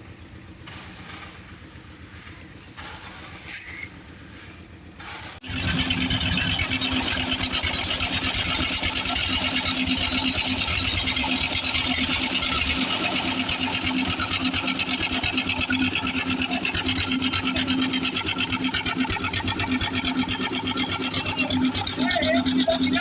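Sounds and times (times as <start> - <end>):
engine running with fast chatter: 0.0 - 23.0
low engine rumble: 0.0 - 23.0.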